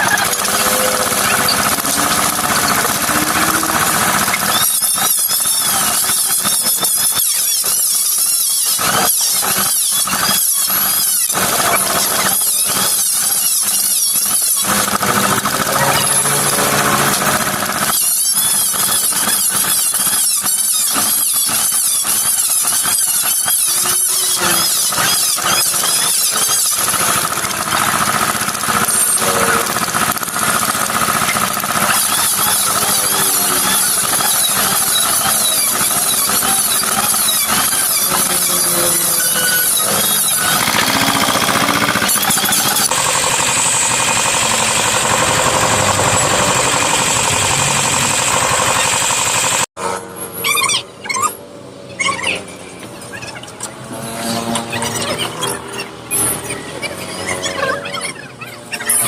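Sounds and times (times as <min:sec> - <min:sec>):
power tool whining cutting: 0:00.0 - 0:50.5, 0:52.6 - 0:59.0.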